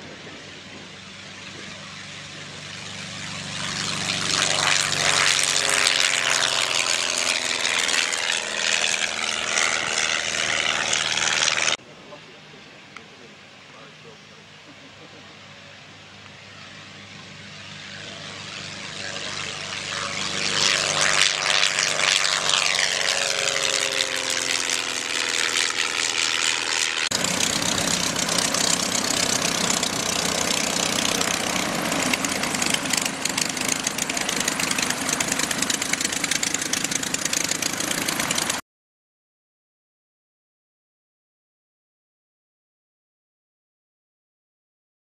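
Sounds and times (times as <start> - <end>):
light airplane propeller engine: 0.0 - 38.6.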